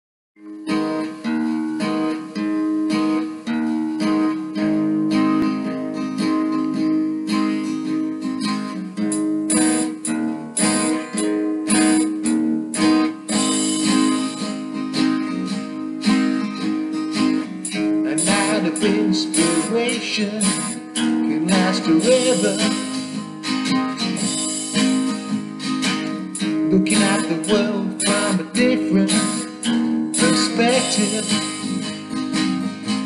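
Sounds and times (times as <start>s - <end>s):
acoustic guitar strumming chords: 0.4s - 33.0s.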